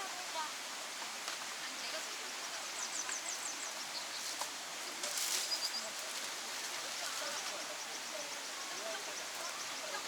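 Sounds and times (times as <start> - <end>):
rustle: 0.0 - 10.0.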